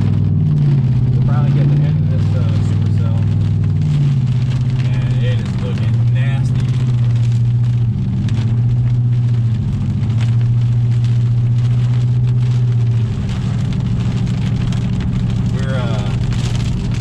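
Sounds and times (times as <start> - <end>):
rain ticking on vehicle roof: 0.0 - 17.0
vehicle engine and road drone: 0.0 - 17.0.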